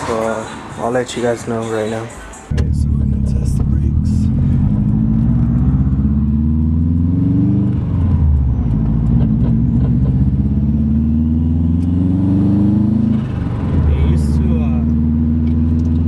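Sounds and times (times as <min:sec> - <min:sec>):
car engine revving through gears: 0:02.5 - 0:16.0.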